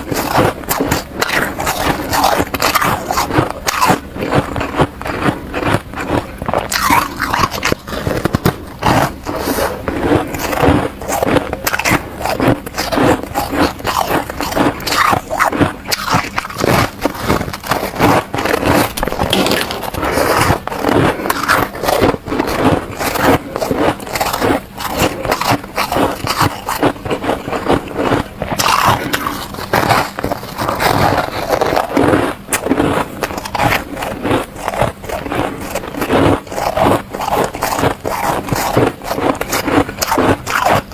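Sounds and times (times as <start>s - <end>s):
crunching and chewing frost: 0.0s - 40.9s.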